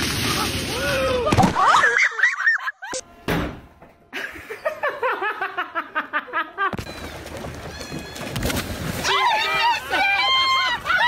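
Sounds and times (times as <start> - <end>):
background noise: 0.0 - 11.0.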